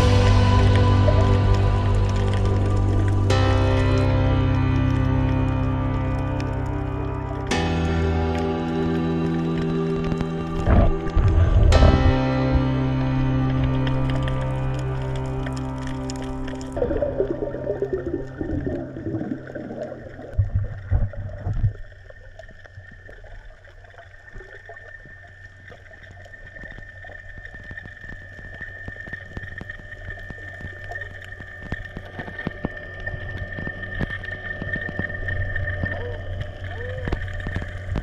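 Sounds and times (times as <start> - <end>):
crackle of clicks: 0.0 - 38.0
water sloshing and bubbling: 0.0 - 38.0.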